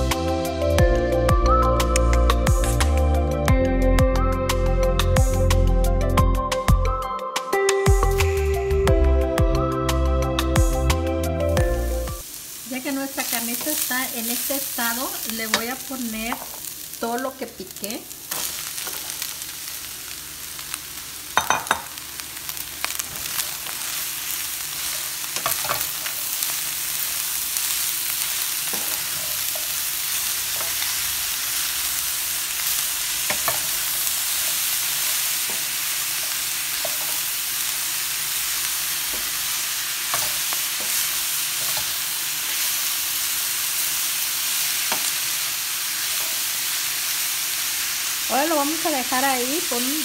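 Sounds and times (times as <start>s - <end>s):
meat and vegetables sizzling: 0.0s - 3.5s, 7.8s - 50.0s.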